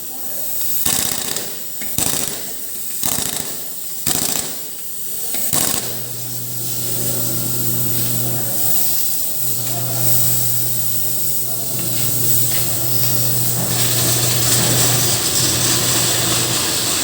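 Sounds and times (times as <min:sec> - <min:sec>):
impact wrench rattling bursts: 0:00.6 - 0:17.0
machine motor humming: 0:00.9 - 0:17.0.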